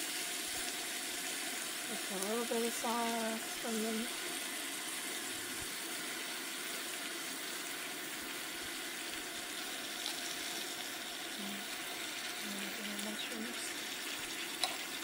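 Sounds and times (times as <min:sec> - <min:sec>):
vegetables sizzling in a skillet: 0:00.0 - 0:15.0.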